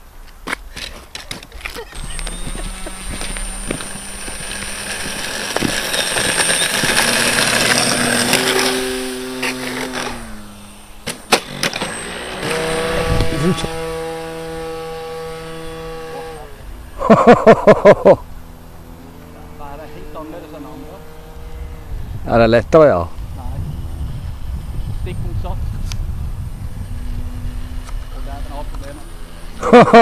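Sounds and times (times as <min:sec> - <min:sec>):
model plane motor and propeller: 0:00.8 - 0:30.0.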